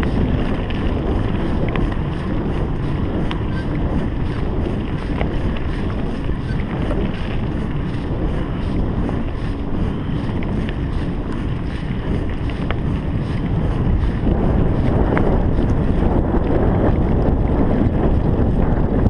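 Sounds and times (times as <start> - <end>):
sharp ticks: 0.0 - 18.6
bike tyres rumbling over dirt: 0.0 - 19.0
wind buffeting a microphone: 0.0 - 19.0.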